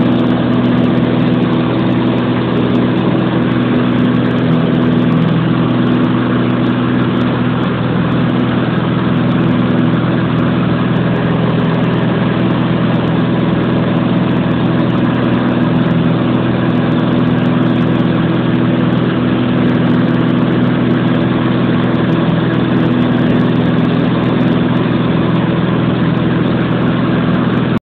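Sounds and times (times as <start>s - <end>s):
propeller plane engine droning: 0.0s - 27.8s.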